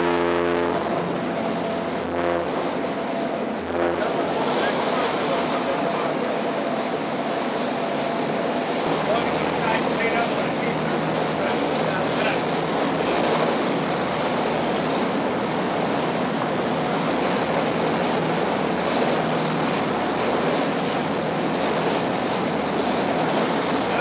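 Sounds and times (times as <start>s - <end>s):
rushing water: 0.0s - 24.0s
wind: 0.0s - 24.0s.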